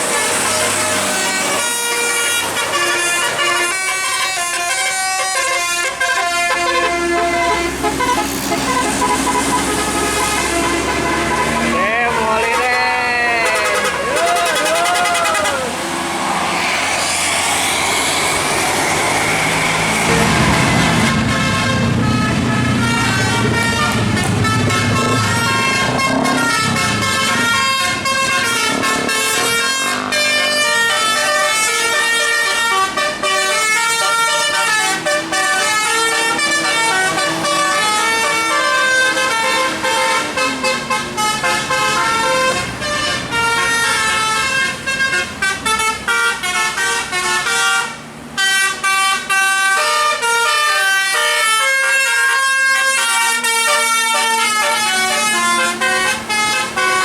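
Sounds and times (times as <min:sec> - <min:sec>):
bus engine running: 0:00.0 - 0:49.4
bus musical air horns: 0:00.0 - 0:57.0.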